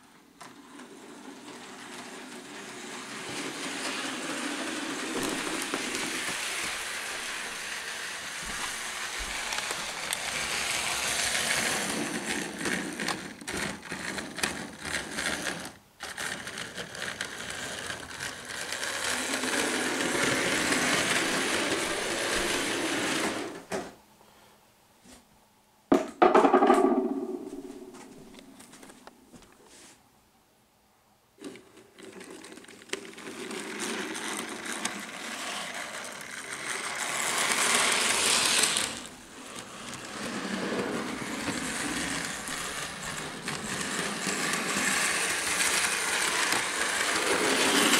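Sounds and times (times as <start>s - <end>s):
model train whirring and rattling: 0.4s - 23.7s, 31.4s - 47.9s.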